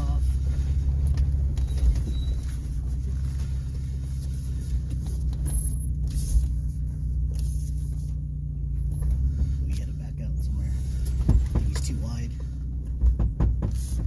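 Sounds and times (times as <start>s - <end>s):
car engine running low speed: 0.0s - 14.0s.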